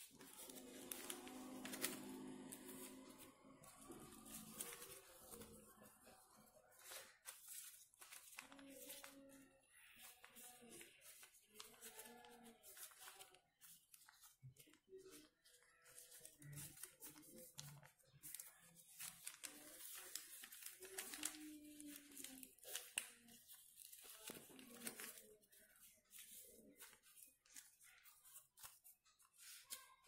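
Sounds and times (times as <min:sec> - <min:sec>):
paper rustling and crinkling: 0:00.0 - 0:30.0.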